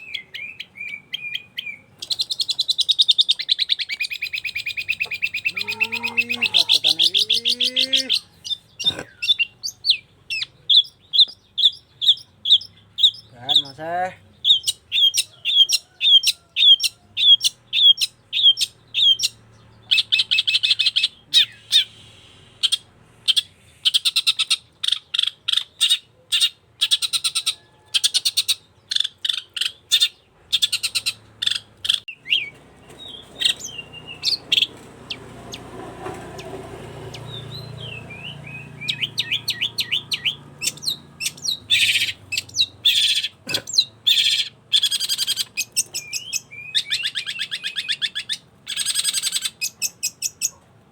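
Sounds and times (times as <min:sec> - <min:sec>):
bird chirping and trilling: 0:00.0 - 0:50.6.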